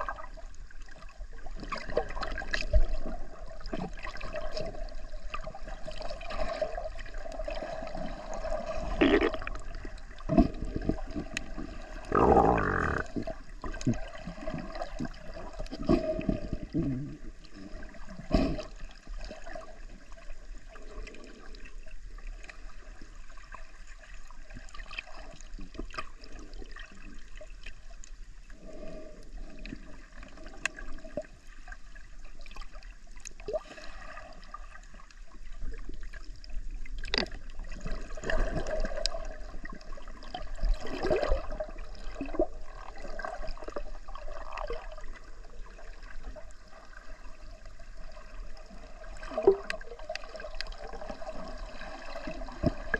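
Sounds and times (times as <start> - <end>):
underwater sloshing and gurgling: 0.0 - 52.9.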